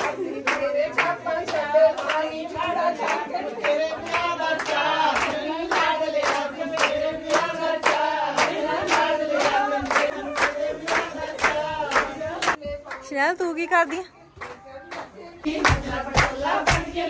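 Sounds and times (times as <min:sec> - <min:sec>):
rhythmic hand clapping: 0:00.0 - 0:13.1, 0:13.8 - 0:17.0
women singing in unison: 0:00.0 - 0:13.1, 0:14.4 - 0:17.0.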